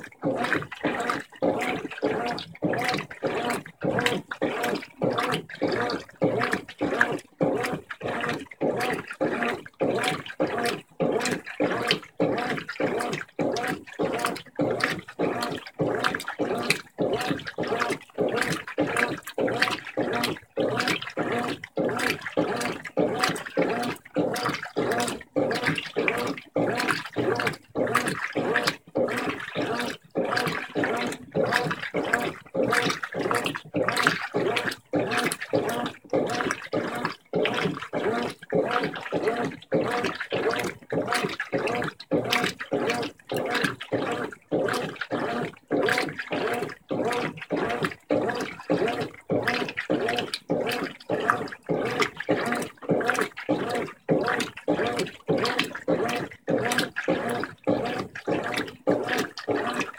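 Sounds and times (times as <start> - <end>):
washing machine sloshing and churning: 0.0 - 59.9.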